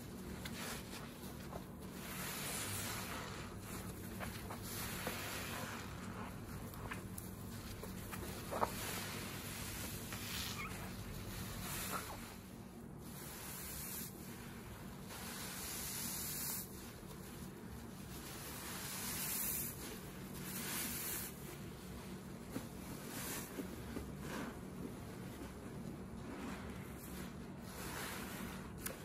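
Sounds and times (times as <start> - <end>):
sponges squelching: 0.0 - 29.0.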